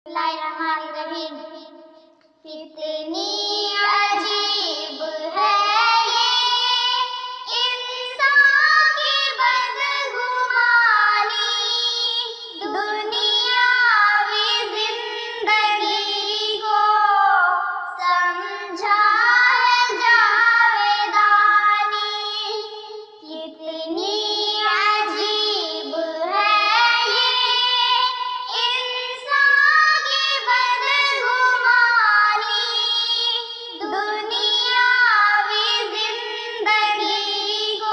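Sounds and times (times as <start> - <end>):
girls singing unaccompanied: 2.4 - 37.9.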